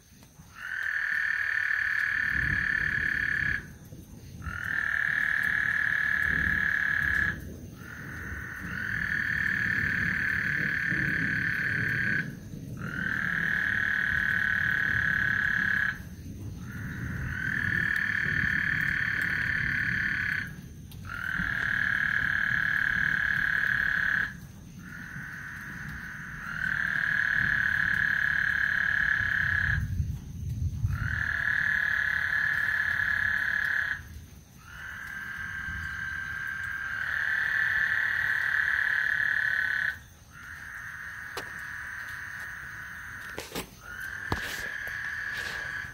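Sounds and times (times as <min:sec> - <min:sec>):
frogs calling: 0:00.0 - 0:45.9.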